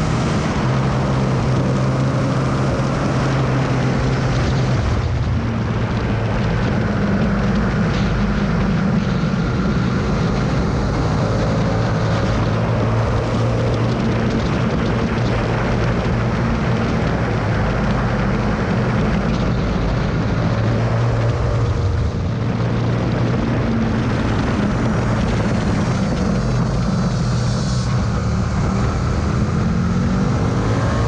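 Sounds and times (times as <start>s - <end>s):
motorcycle engine running hard: 0.0s - 31.0s
wind rush over microphone: 0.0s - 31.0s.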